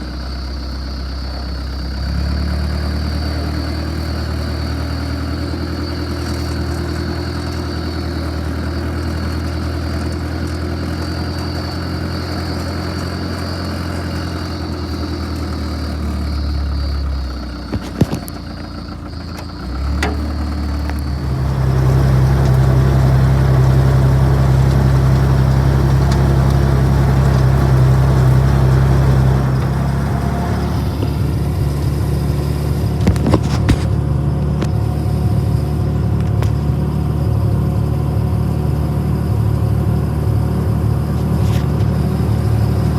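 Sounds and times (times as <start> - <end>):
tug engine running: 0.0 - 42.9.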